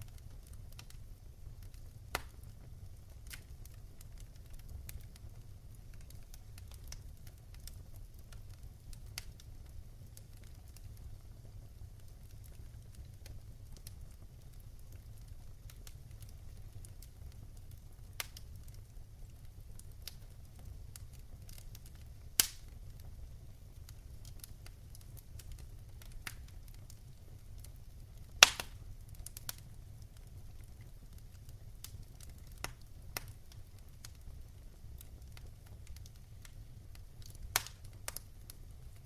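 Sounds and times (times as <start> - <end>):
fire crackling in a fireplace: 0.0 - 39.0
sharp popping of fire: 0.0 - 39.0.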